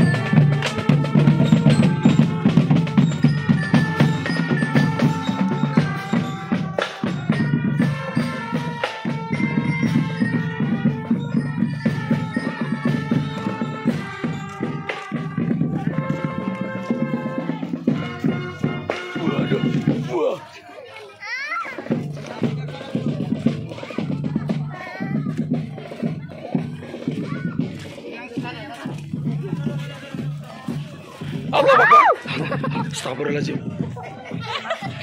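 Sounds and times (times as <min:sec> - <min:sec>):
marching drum band playing: 0:00.0 - 0:20.4, 0:21.7 - 0:35.0.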